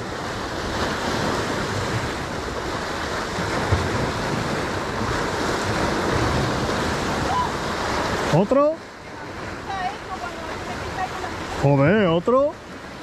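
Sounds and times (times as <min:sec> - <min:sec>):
waves breaking on rocks: 0:00.0 - 0:13.0.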